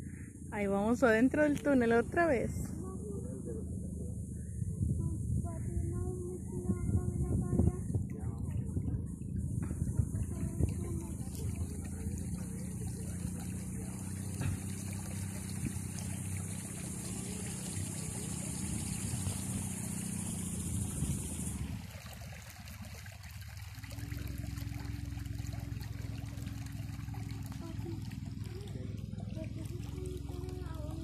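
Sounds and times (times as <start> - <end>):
boat motor running: 0.0 - 31.0
water trickling along hull: 0.0 - 31.0.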